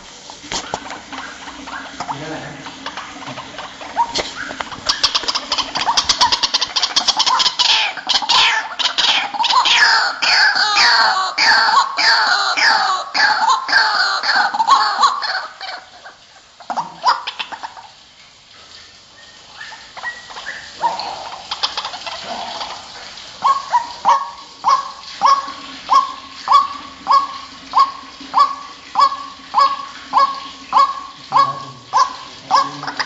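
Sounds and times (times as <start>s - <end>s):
waterhen calling: 0.0s - 33.0s.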